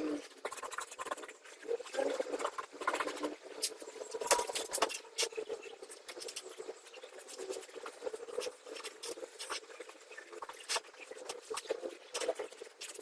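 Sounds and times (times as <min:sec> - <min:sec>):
tapping and scratching of craft work: 0:00.2 - 0:13.0.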